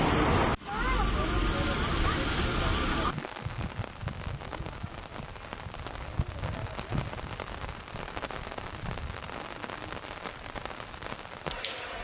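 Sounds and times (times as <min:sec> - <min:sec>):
heavy rain patter: 0:00.0 - 0:12.0.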